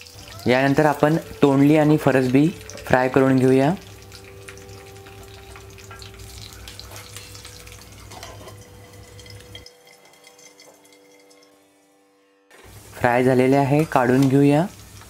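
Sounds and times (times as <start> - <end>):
vegetables deep-frying in oil: 0.0 - 11.7, 12.6 - 15.0.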